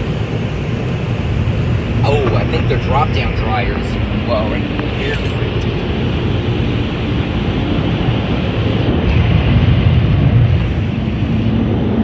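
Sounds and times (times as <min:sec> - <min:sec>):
car wash air dryers blowing: 0:00.0 - 0:12.0.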